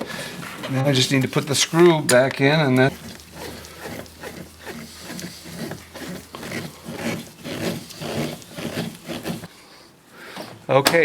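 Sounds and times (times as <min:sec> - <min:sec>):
screwdriver turning screw rubbing: 0:00.0 - 0:09.5.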